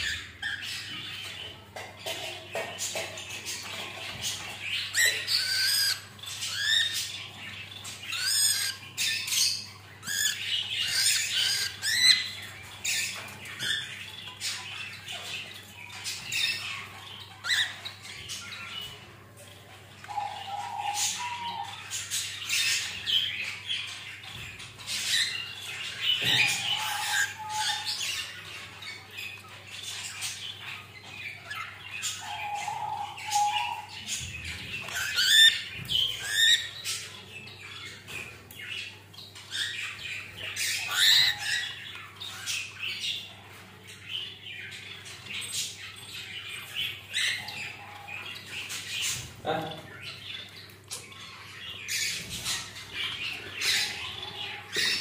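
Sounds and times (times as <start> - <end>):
cockatiels chirping and squawking: 0.0 - 55.0.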